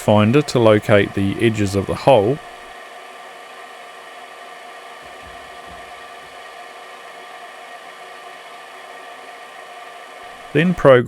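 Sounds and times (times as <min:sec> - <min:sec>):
electric motor humming: 0:00.0 - 0:11.0
motor whining tones: 0:00.0 - 0:11.0.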